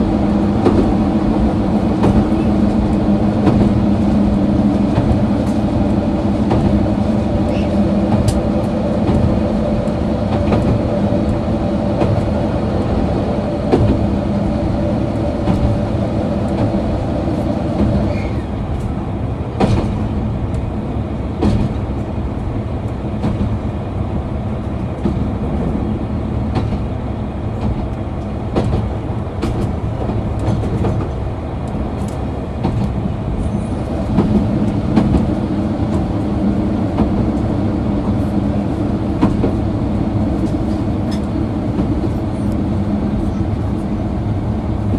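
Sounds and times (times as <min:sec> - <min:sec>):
diesel engine drone: 0:00.0 - 0:44.9
train rolling rumble: 0:00.0 - 0:44.9.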